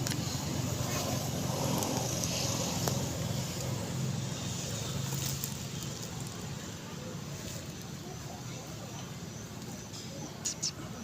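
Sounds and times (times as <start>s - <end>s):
low engine hum: 0.0s - 9.8s.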